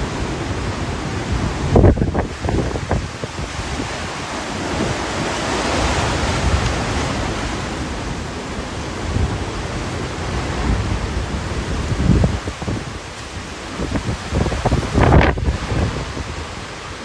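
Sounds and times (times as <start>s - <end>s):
hurricane wind gusting: 0.0s - 17.0s
wind buffeting the microphone: 0.0s - 17.0s.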